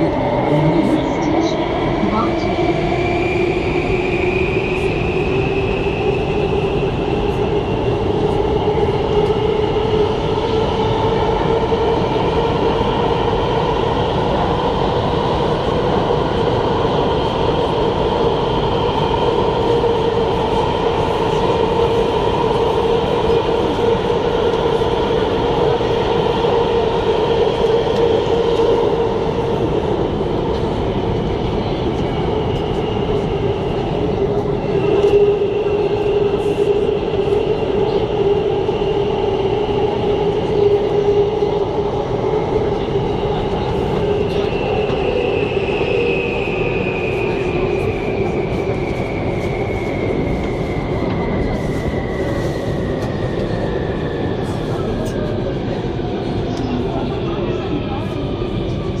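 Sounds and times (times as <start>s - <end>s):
rumble of train wheels: 0.0s - 59.0s.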